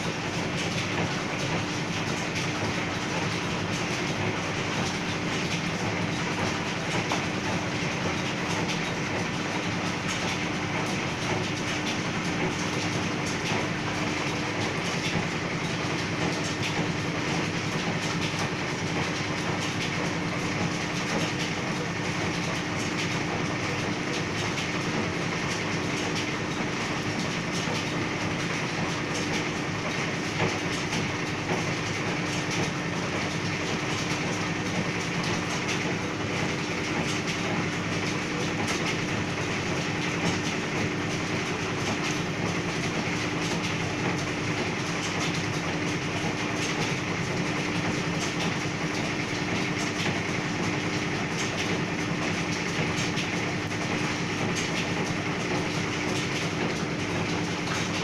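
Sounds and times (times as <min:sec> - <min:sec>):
machine hum: 0:00.0 - 0:58.0.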